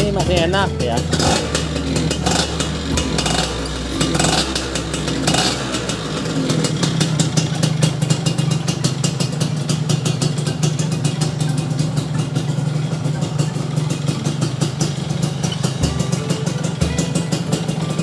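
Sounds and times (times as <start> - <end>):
engine throttle blips: 0.0 - 18.0
two-stroke engine idling: 0.0 - 18.0.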